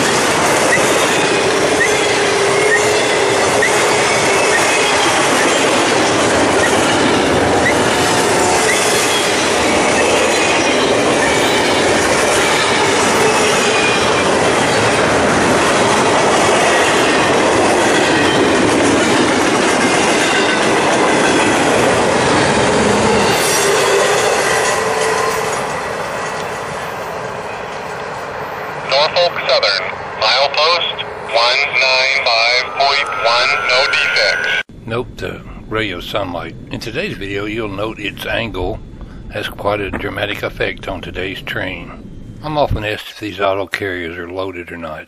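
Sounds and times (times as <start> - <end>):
train wheels rumbling on rails: 0.0 - 29.8, 31.8 - 43.2.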